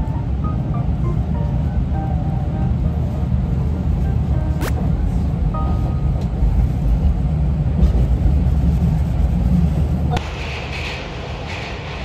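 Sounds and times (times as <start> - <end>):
vehicle rumbling in motion: 0.0 - 12.0.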